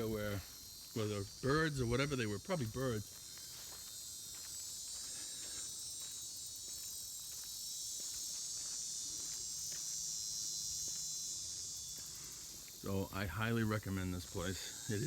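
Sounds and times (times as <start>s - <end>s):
faint footsteps on a trail: 0.0s - 15.0s
high-pitched insect chorus: 0.0s - 15.0s.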